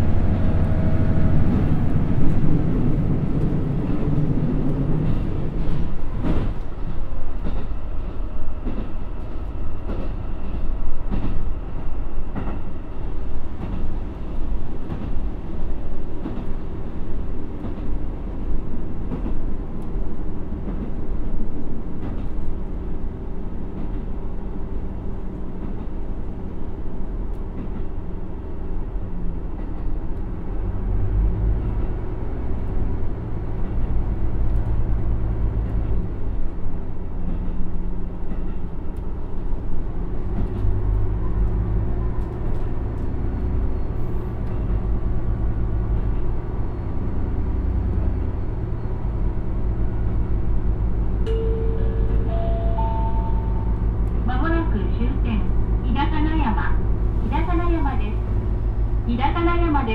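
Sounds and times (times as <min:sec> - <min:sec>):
train wheels on rails: 0:00.0 - 0:59.8.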